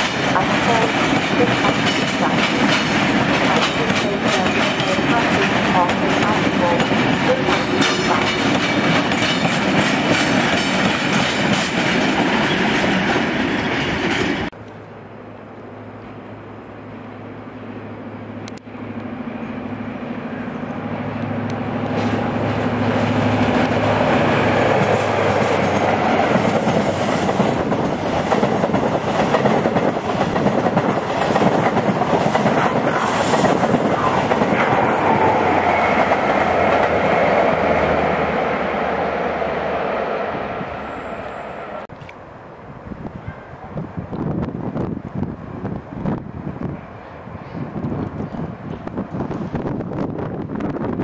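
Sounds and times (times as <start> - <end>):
diesel train engine hum: 0.0 - 51.0.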